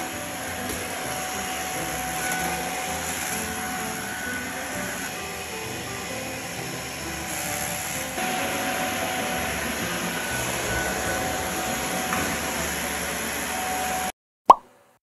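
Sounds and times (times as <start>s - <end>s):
vacuum cleaner motor running: 0.0s - 14.1s.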